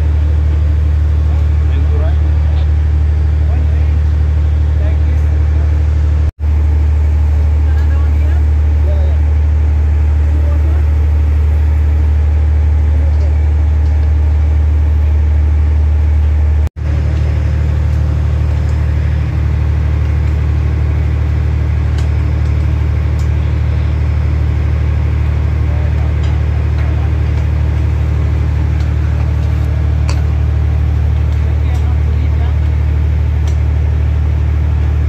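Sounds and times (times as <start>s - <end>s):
large engine droning: 0.0s - 35.0s.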